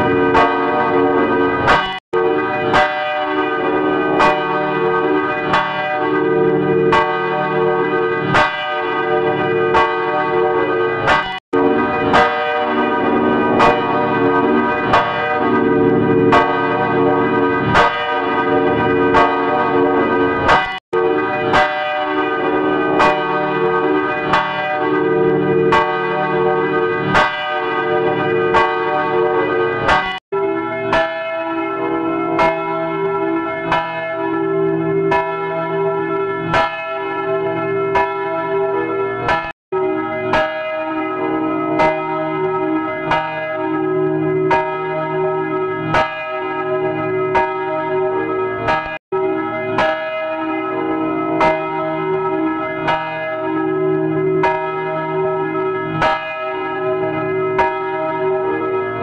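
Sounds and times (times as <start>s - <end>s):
church bell ringing: 0.0s - 59.0s.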